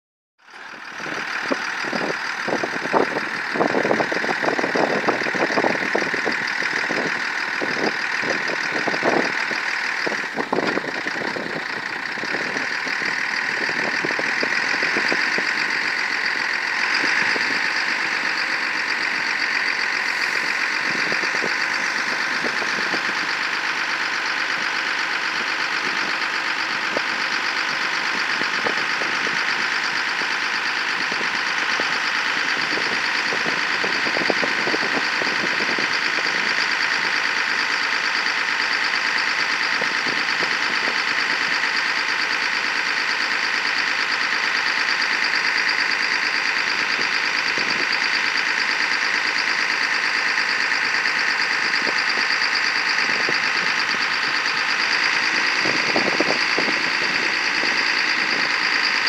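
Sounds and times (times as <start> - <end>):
diesel truck engine running: 0.4 - 59.0
hydraulic whine: 0.7 - 37.2, 38.8 - 59.0.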